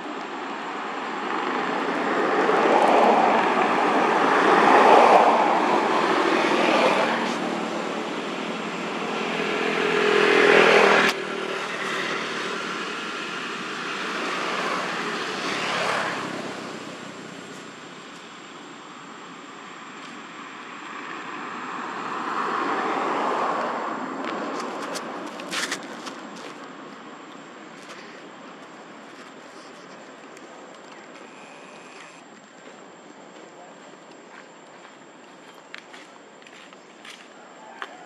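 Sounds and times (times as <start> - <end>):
passing traffic engines: 0.0 - 32.3.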